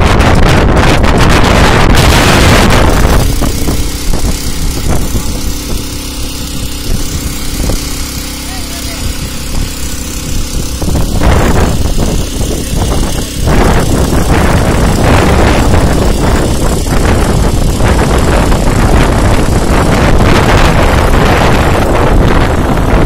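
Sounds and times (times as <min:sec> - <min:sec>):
small petrol engine running: 0:00.0 - 0:23.0.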